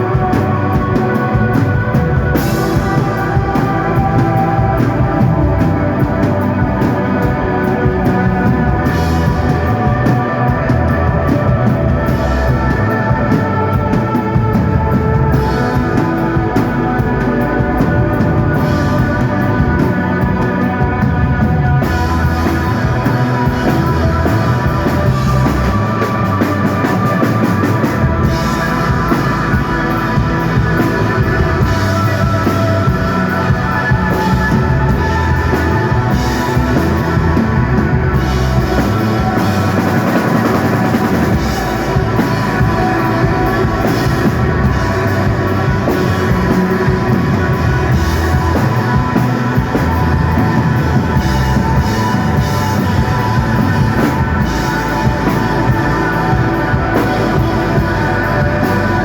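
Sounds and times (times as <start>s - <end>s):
bass guitar: 0.0s - 59.0s
drum kit with cymbals: 0.0s - 59.0s
electric guitar long notes: 0.0s - 59.0s.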